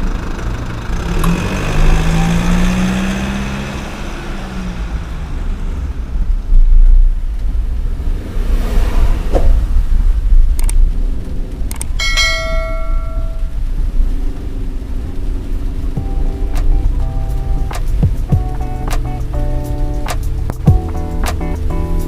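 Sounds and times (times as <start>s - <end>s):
vehicle engine passing: 0.0s - 10.4s, 12.1s - 22.0s
road and wind rumble: 0.0s - 22.0s.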